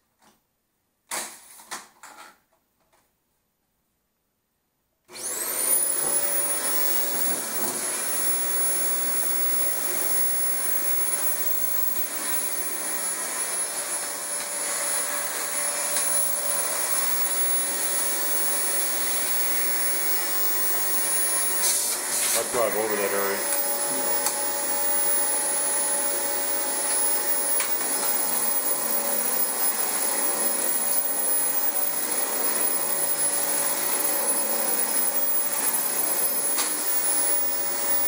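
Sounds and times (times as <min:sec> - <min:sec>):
vacuum cleaner motor whine: 0:05.1 - 0:38.0.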